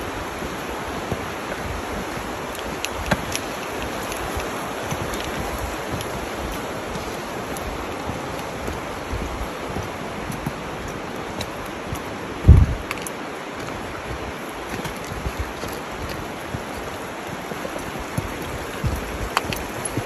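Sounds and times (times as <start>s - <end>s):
creek rushing: 0.0s - 20.0s.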